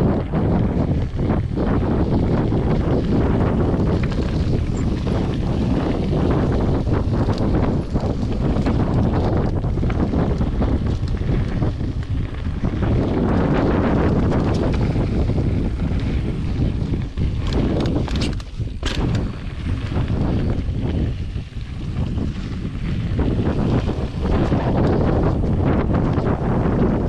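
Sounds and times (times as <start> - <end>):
strong wind on microphone: 0.0 - 27.0.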